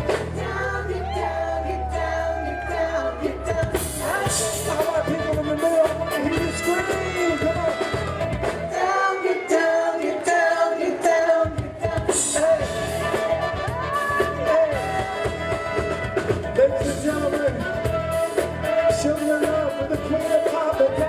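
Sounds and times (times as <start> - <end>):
live band playing disco: 0.0 - 1.2, 3.1 - 10.3, 11.0 - 21.0
person singing: 0.0 - 21.0.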